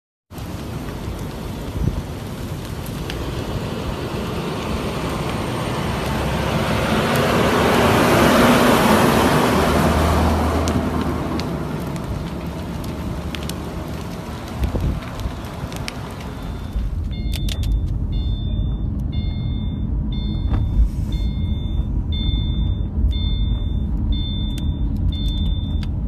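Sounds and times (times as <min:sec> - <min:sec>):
road noise: 0:00.3 - 0:26.0
large vehicle passing: 0:02.3 - 0:25.3.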